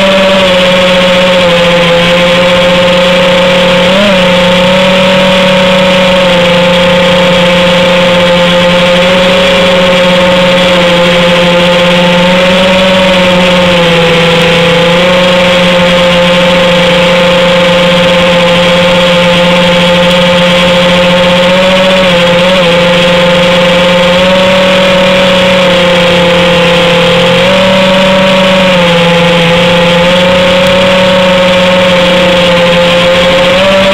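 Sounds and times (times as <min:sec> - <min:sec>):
quadcopter motors whining: 0:00.0 - 0:33.9.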